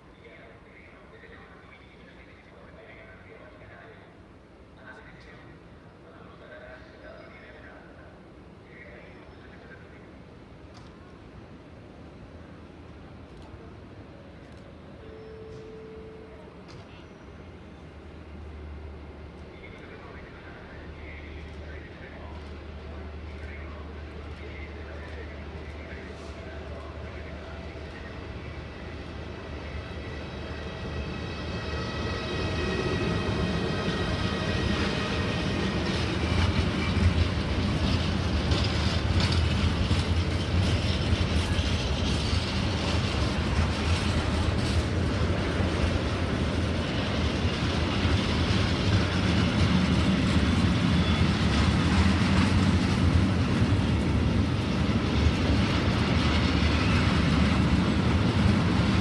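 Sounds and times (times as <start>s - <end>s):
electric locomotive high whine: 6.9s - 59.0s.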